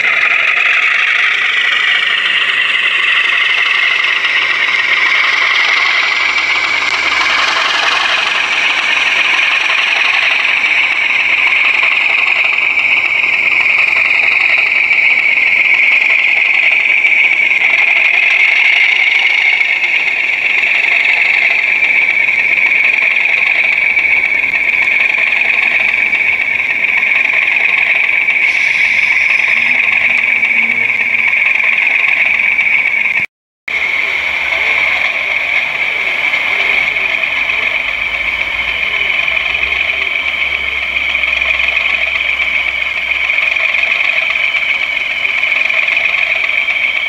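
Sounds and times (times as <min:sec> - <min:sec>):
model locomotive engine sound: 0:00.0 - 0:47.0.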